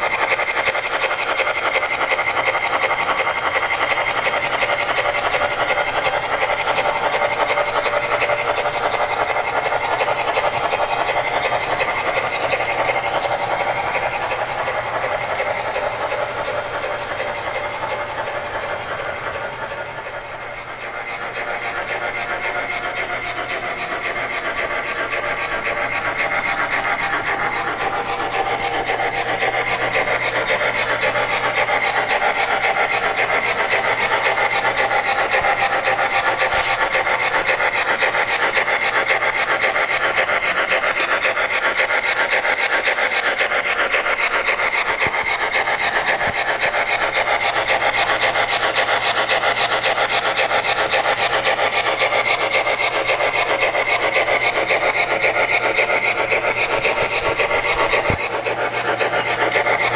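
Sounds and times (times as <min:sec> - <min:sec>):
model steam locomotive chuffing: 0:00.0 - 0:59.9
wheels running on rails: 0:00.0 - 0:59.9.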